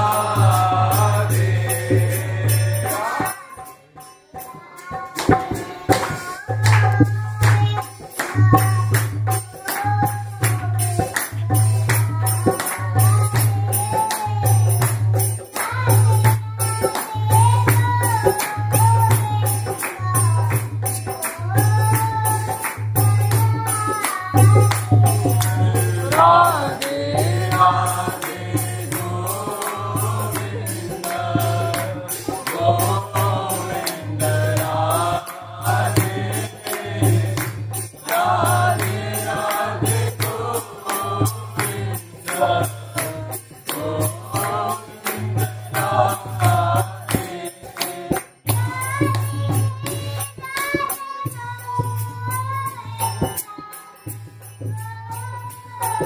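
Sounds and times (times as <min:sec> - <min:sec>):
jingling percussion: 0:00.0 - 0:56.0
voices singing a chant: 0:00.0 - 0:56.0.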